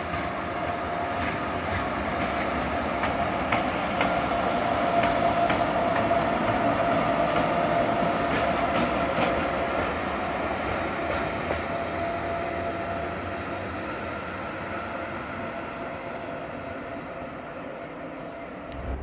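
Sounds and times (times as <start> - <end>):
electric locomotive whine: 0.0 - 19.0
train wheels clickety-clack on rail joints: 0.0 - 19.0.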